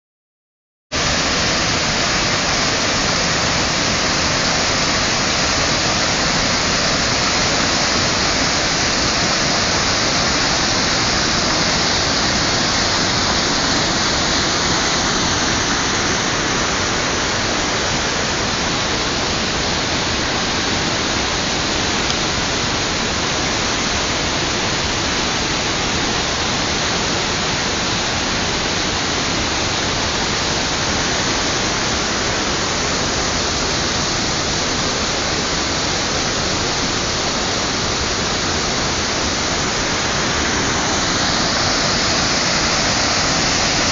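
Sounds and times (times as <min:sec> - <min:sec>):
waterfall rushing over rocks: 0:01.0 - 0:43.9.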